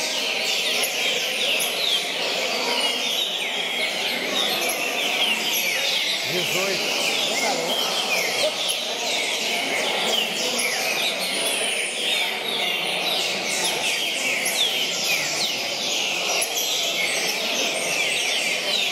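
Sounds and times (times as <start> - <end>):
low hall murmur: 0.0 - 18.9.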